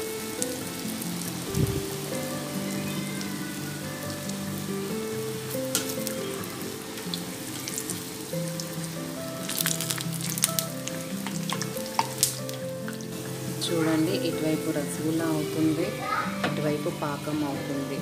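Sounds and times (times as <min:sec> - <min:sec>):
batter sizzling in hot oil: 0:00.0 - 0:17.7
soft background music: 0:00.0 - 0:18.0.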